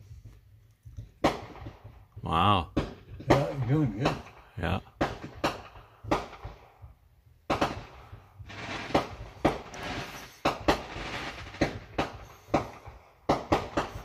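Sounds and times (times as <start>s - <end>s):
fireworks crackling: 0.0s - 14.0s
fireworks banging: 0.1s - 14.0s.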